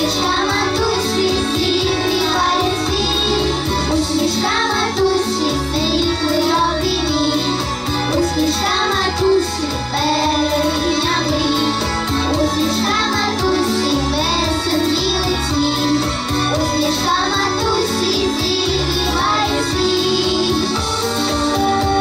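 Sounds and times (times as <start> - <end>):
children's choir singing: 0.0 - 20.8
bass line: 0.0 - 22.0
instrumental accompaniment: 0.0 - 22.0.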